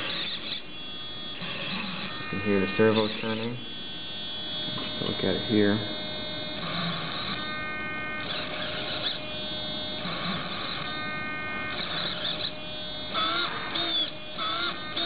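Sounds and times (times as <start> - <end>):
servo whirring: 0.0 - 15.0
steady high whine: 0.0 - 15.0.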